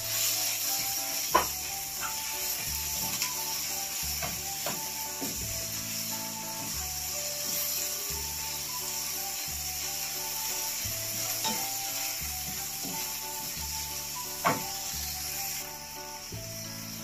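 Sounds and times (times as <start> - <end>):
wooden spatula scraping a pan: 0.0 - 15.9
background music: 0.0 - 17.0
food sizzling in a frying pan: 0.0 - 17.0.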